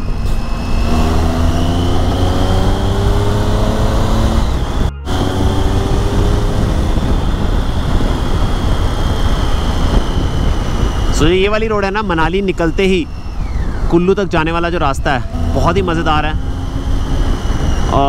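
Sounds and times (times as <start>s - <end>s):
motorcycle engine accelerating: 0.0s - 18.0s
wind rushing over microphone: 0.0s - 18.0s.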